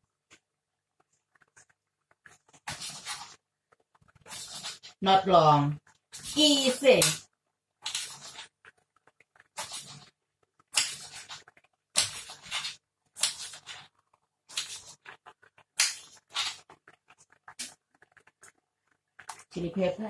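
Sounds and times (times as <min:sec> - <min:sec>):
curry bubbling in a pot: 0:00.1 - 0:20.0.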